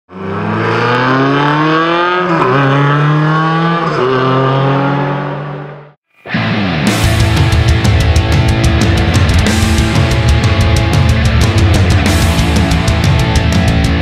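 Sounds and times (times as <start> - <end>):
rally car engine accelerating: 0.1 - 6.0, 6.9 - 14.0.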